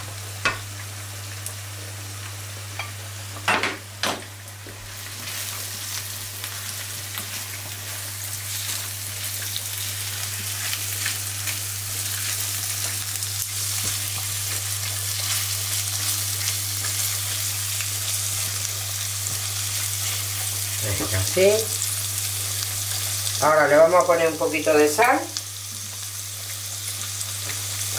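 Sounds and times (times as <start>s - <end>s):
mushrooms sizzling in a pan: 0.0s - 27.9s.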